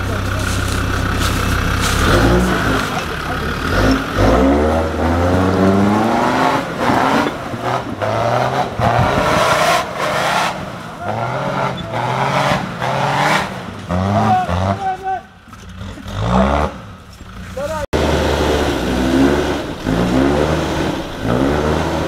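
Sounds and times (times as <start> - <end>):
diesel engine revving hard: 0.0 - 22.0.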